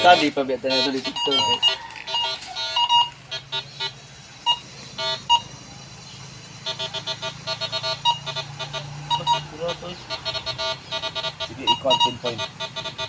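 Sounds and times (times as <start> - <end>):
metal detector beeping: 0.0 - 5.5, 6.7 - 8.4, 9.1 - 13.0.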